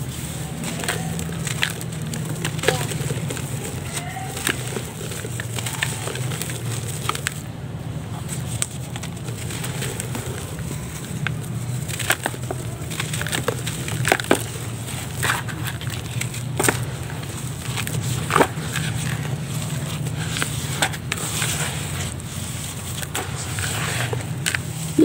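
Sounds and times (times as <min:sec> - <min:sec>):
charcoal crumbling by hand: 0:00.0 - 0:25.0
fingers raking through powder: 0:00.0 - 0:25.0.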